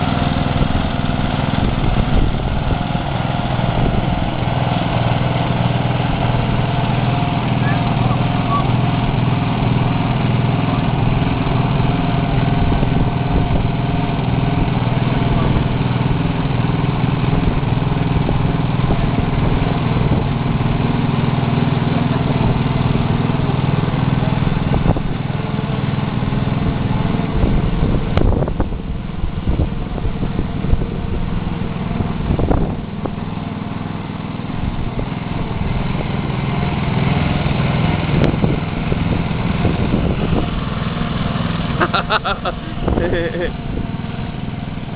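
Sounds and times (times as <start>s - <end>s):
small lawnmower engine running: 0.0s - 44.9s.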